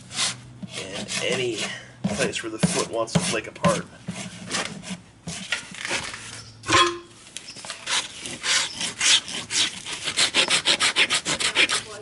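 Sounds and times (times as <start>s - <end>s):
hoof rasp scraping hoof: 0.0s - 12.0s.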